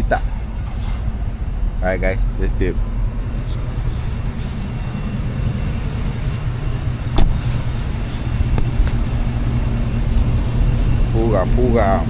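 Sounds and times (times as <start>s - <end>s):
road vehicle rumble: 0.0s - 12.0s.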